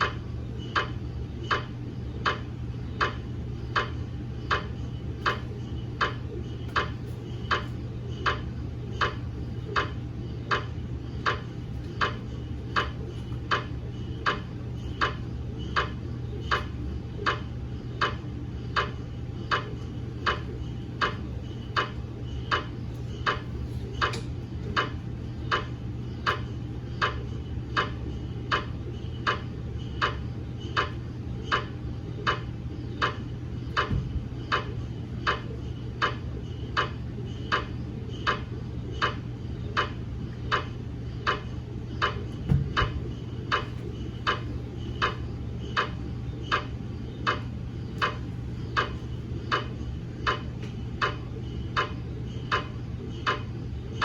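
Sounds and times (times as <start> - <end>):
mri scanner knocking: 0.0 - 54.0
steady low hum: 0.0 - 54.0.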